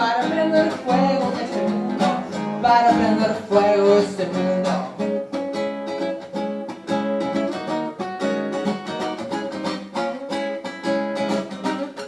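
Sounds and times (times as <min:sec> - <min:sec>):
guitar strumming: 0:00.0 - 0:12.0.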